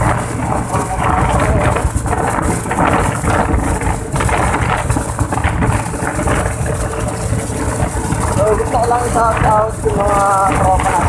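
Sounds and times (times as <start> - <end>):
scooter engine and tyre noise: 0.0 - 11.0
wind buffeting microphone: 0.0 - 11.0.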